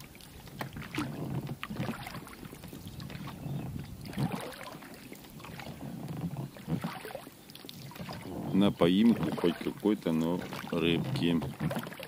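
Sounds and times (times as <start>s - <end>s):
oars splashing water: 0.0s - 12.0s.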